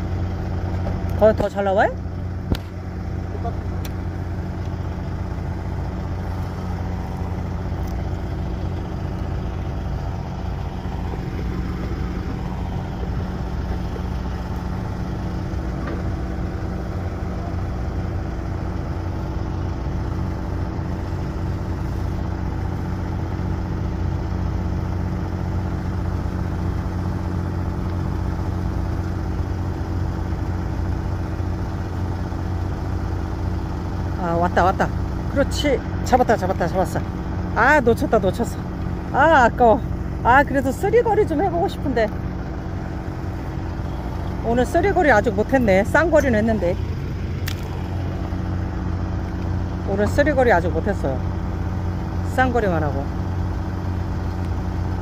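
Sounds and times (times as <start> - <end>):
low engine hum: 0.0 - 55.0.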